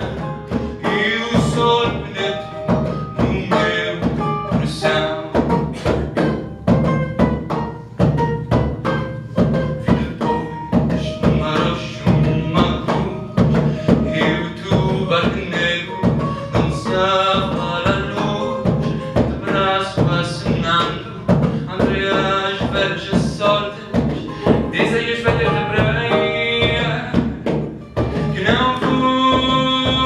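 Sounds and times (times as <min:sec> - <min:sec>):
bouzouki plucked notes: 0:00.0 - 0:30.0
plucked double bass: 0:00.0 - 0:30.0.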